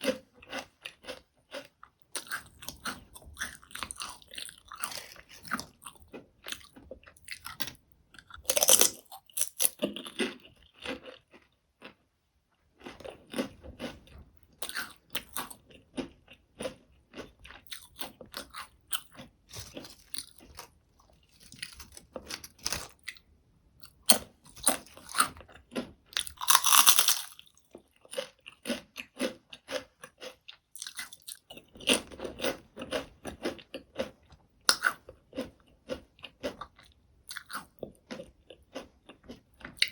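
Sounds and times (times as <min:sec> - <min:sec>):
crunching potato chips: 0:00.0 - 0:12.0, 0:12.8 - 0:39.9.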